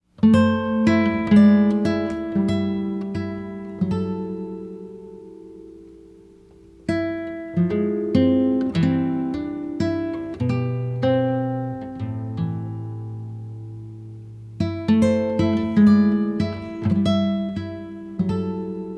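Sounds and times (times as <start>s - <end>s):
acoustic guitar plucked notes: 0.2s - 18.9s.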